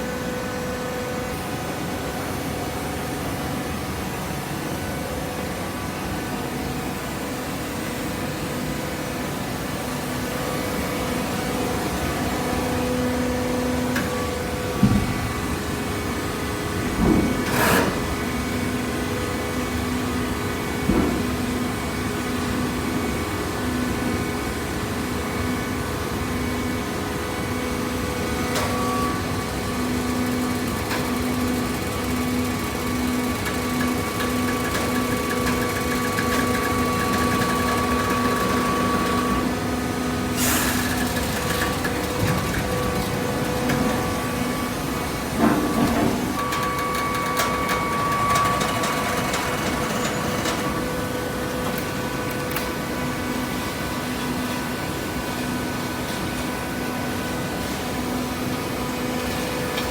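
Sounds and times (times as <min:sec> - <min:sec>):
baler motor and pump hum: 0:00.0 - 0:59.9.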